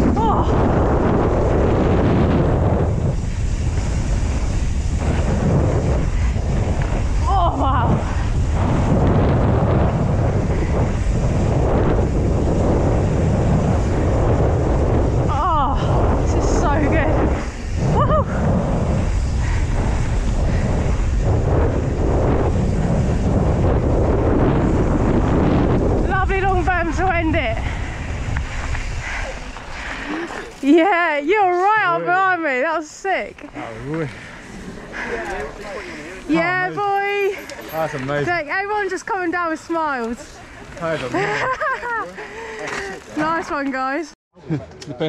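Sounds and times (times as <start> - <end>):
bike tyres rumbling on dirt: 0.0 - 32.0, 32.7 - 44.1
wind rushing over microphone: 0.0 - 44.2.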